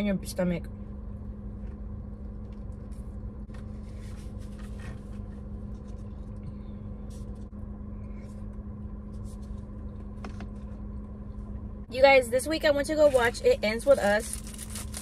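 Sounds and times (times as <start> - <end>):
car engine hum inside cabin: 0.0 - 15.0.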